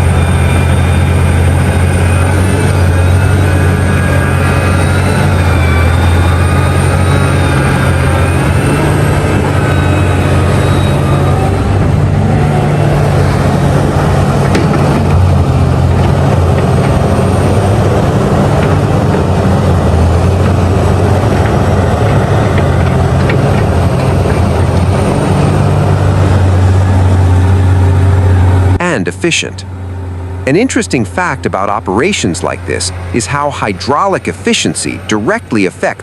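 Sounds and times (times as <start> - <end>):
heavy diesel engines droning: 0.0 - 36.0.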